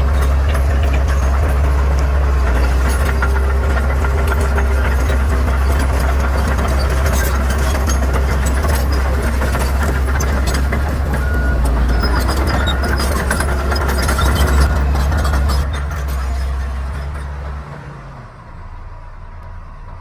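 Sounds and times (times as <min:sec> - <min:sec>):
bulldozer diesel engine drone: 0:00.0 - 0:20.0.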